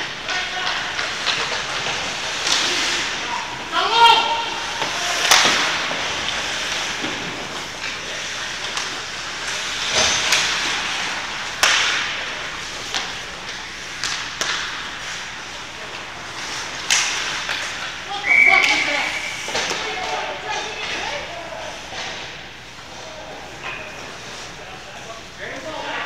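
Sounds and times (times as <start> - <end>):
steady noisy background: 0.0 - 26.0.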